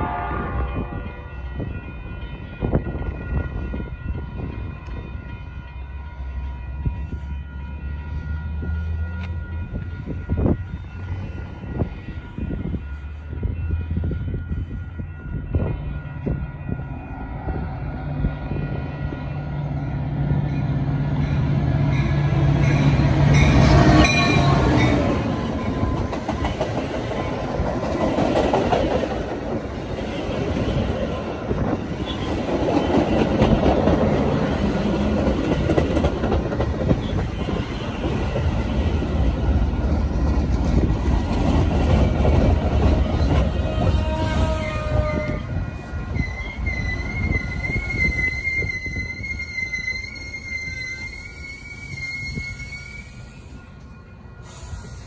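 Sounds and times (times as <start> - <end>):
train pulling into station: 0.0 - 55.0.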